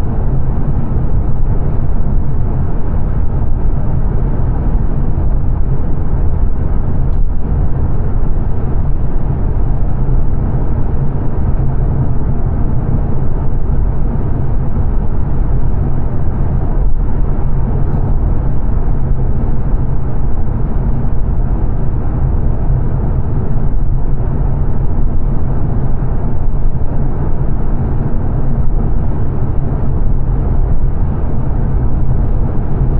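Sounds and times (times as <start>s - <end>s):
road and tyre noise in car cabin: 0.0s - 32.9s.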